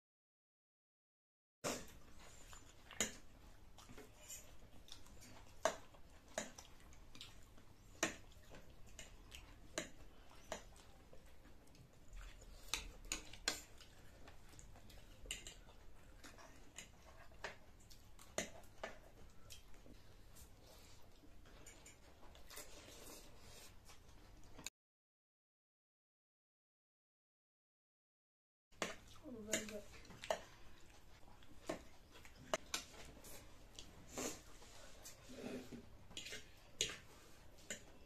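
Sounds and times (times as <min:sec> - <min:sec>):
chewing and slurping noodles: 0:01.7 - 0:24.6, 0:29.8 - 0:38.0.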